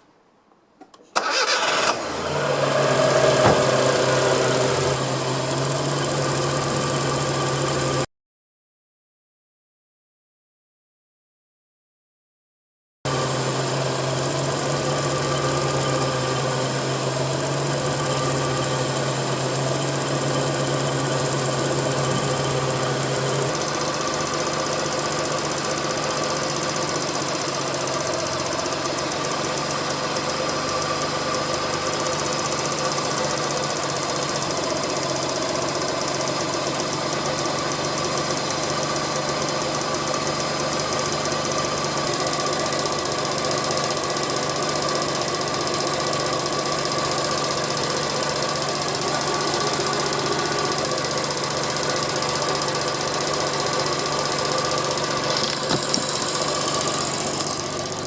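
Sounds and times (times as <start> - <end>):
small car engine running: 1.1 - 8.1, 13.1 - 58.0.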